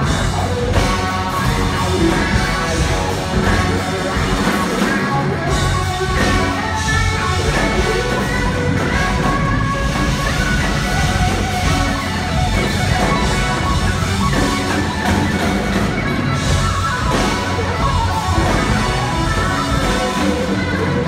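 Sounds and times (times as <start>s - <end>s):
electric guitar: 0.0s - 21.0s
rock band playing live: 0.0s - 21.0s.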